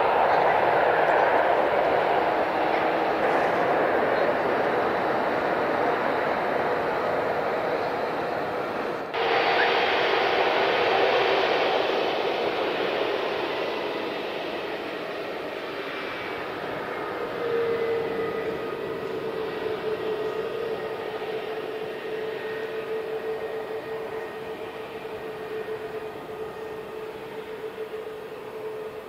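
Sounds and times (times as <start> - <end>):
jet engines running with whine: 0.0 - 29.0.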